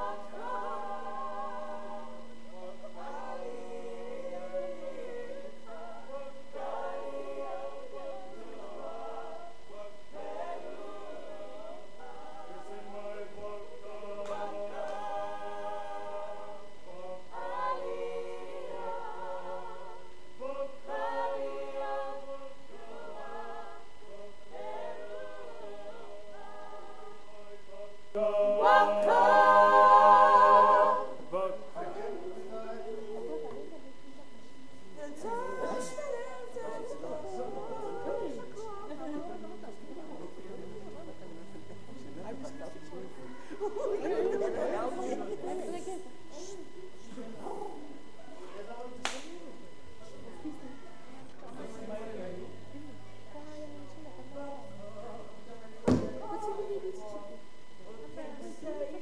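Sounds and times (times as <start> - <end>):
group singing unaccompanied: 0.0 - 59.0.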